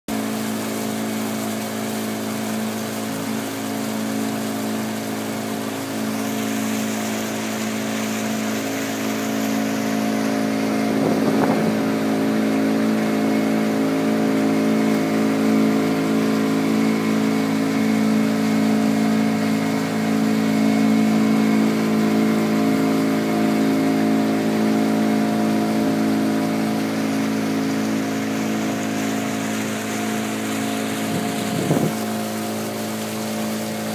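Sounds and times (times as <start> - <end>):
boat engine running: 0.1 - 33.9.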